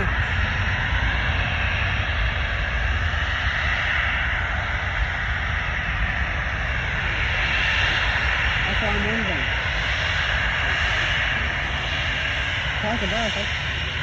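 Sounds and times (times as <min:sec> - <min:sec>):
jet engines roaring: 0:00.0 - 0:14.0
wind on microphone: 0:00.0 - 0:14.0.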